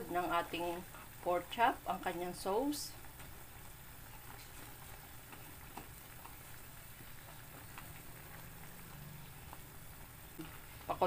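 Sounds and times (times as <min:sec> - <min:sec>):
liquid bubbling in a frying pan: 0:00.0 - 0:11.0.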